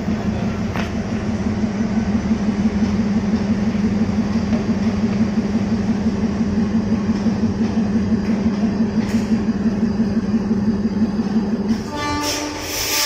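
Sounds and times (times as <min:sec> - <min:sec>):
train diesel engine idling: 0:00.0 - 0:13.0.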